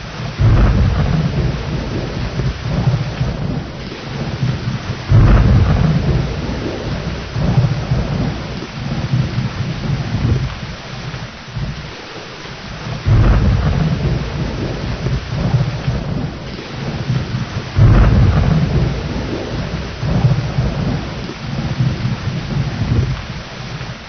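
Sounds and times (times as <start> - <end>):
heavy rain: 0.0 - 24.0
loud thunder claps: 0.0 - 24.0
thunder rumbling: 0.0 - 24.0.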